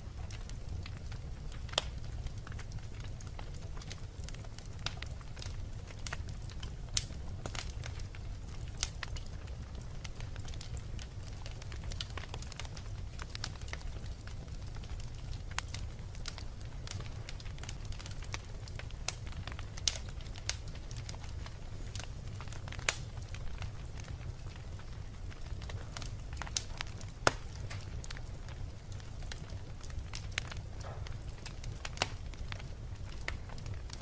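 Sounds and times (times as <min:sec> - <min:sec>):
fire crackling: 0:00.0 - 0:34.0
low rumble of flames: 0:00.0 - 0:34.0
sharp pops of fire: 0:00.3 - 0:34.0.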